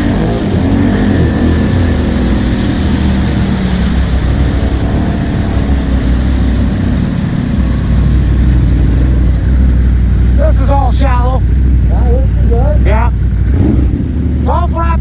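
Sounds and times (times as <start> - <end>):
water churning and spraying: 0.0 - 14.7
atv engine running under load: 0.0 - 15.0.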